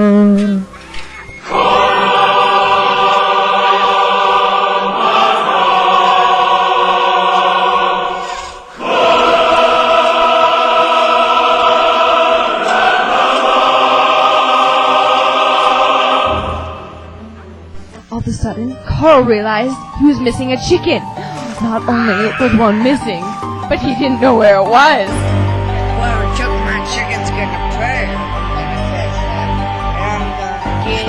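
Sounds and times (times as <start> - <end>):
choir singing held chords: 1.4 - 17.6, 20.3 - 31.0.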